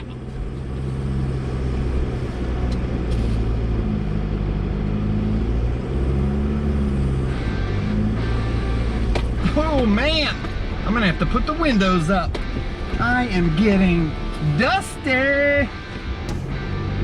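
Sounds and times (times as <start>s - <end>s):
pickup engine running: 0.0s - 17.0s.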